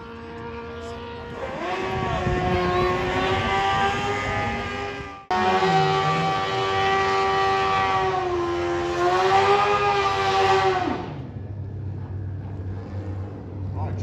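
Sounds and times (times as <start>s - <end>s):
motorbike engine revving high: 0.0s - 11.4s
low engine hum: 0.0s - 14.0s.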